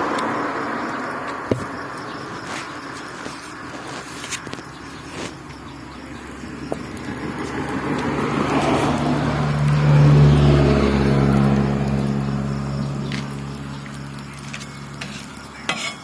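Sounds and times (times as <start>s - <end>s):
vehicle engine close by: 0.0s - 15.7s.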